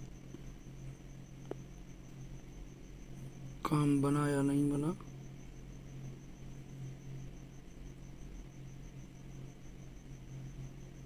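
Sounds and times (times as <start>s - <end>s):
faint electrical hum: 0.0s - 11.0s
high-pitched whine: 0.0s - 11.0s.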